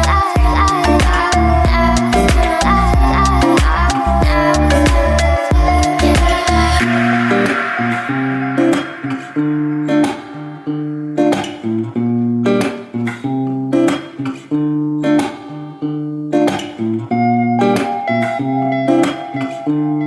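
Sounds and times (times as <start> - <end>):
guitar chords strummed: 0.0 - 20.0.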